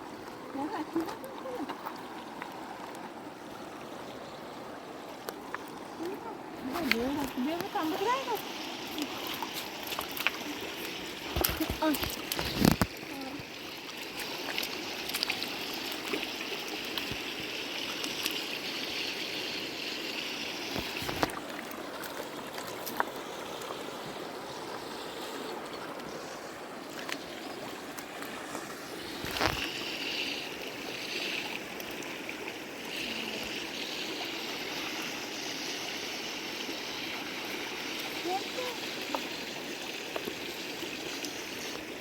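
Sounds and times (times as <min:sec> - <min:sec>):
stream rushing: 0:00.0 - 0:42.0.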